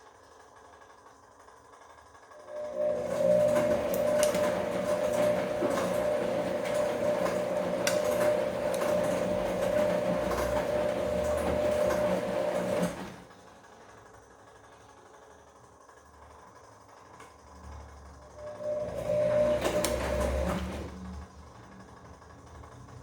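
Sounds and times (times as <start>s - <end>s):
washing machine motor whine: 0.0s - 23.0s.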